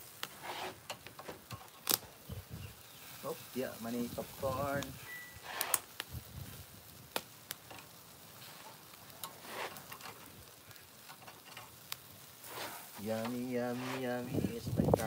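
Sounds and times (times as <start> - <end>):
meat sizzling on grill: 0.0 - 15.0.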